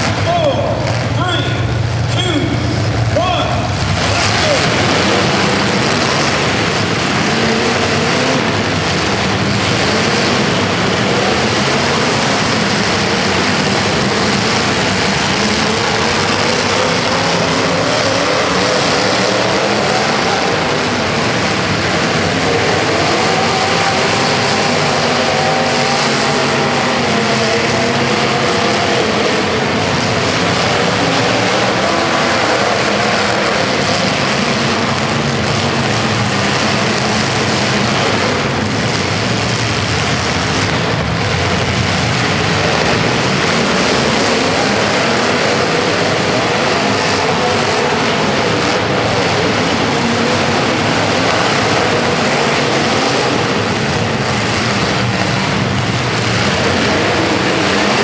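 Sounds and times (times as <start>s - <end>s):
racing engines revving: 0.0s - 58.0s.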